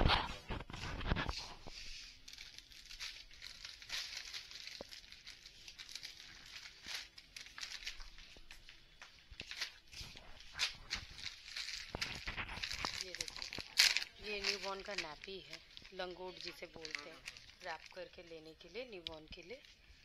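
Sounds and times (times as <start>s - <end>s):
plastic packaging crinkling: 0.4s - 20.0s.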